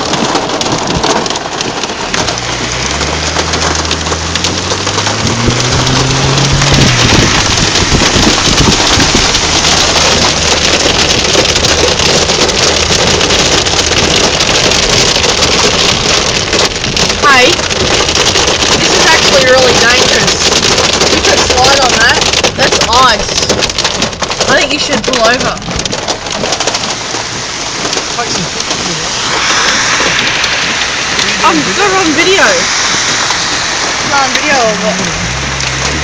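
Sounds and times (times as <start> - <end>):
car engine accelerating: 0.0 - 36.0
heavy rain pelting a car: 0.0 - 36.0.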